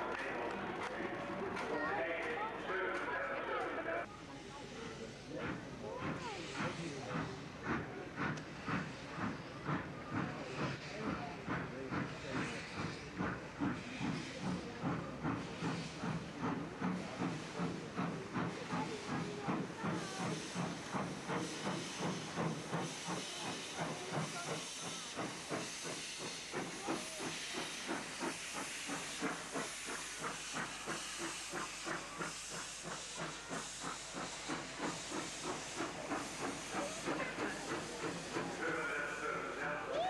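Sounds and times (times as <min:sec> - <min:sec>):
steam locomotive chuffing: 0:00.0 - 0:40.0
hiss of steam: 0:04.0 - 0:40.0.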